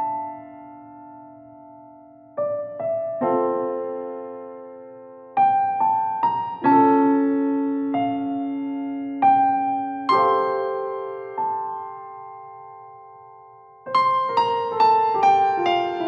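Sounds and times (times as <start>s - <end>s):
gentle solo piano: 0.0s - 16.0s.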